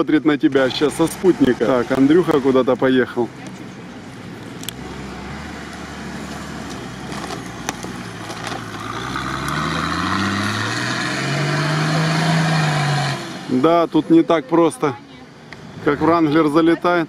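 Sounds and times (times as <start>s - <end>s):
off-road vehicle engine revving: 0.0s - 14.3s, 15.5s - 17.0s.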